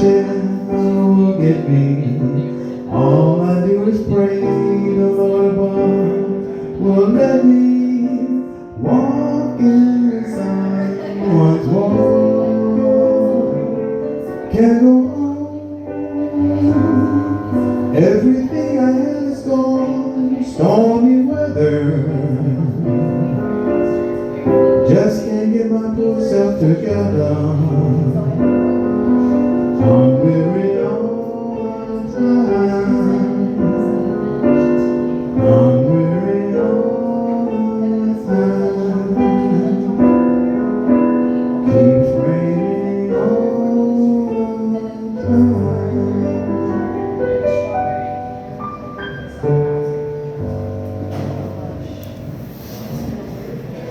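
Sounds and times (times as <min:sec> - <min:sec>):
piano chords: 0:00.0 - 0:53.9.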